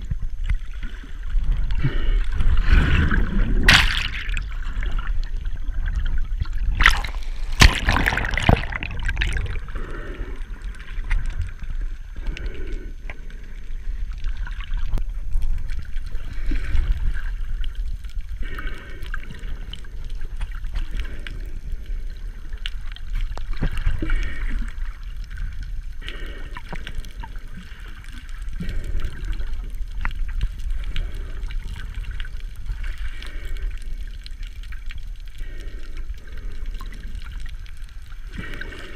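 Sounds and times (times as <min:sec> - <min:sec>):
muffled underwater gurgling: 0:00.0 - 0:38.9.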